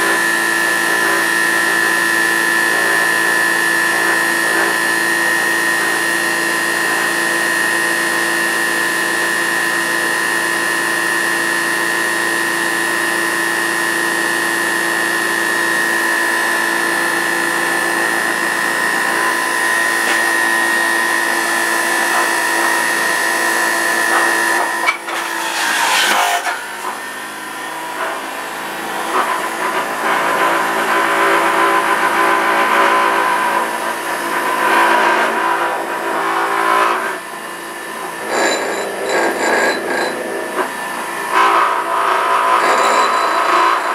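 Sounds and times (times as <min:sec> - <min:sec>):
juicer motor whining: 0:00.0 - 0:43.9.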